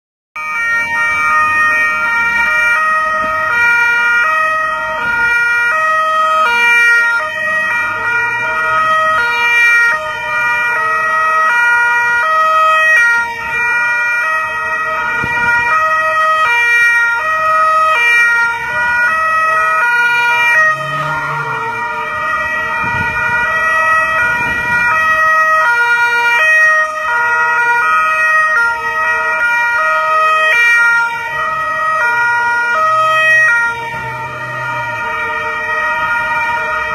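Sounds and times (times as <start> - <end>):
car engines and tyres passing: 0.4 - 36.9
two-tone police sirens: 0.4 - 36.9.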